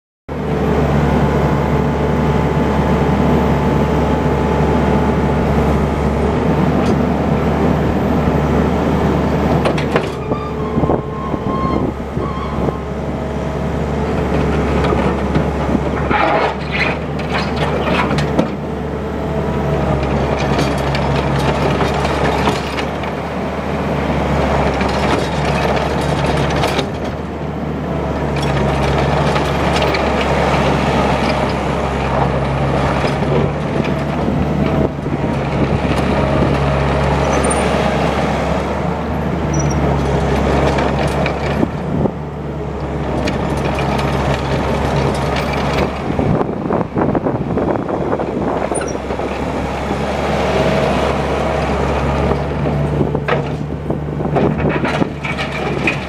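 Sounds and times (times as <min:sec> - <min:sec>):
diesel engine running: 0:00.3 - 0:56.0.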